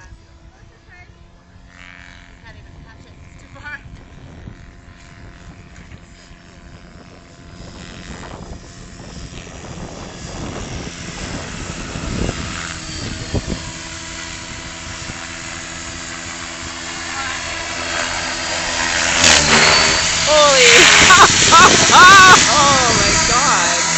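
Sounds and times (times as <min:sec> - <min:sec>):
helicopter rotor and engine: 0:00.0 - 0:23.9.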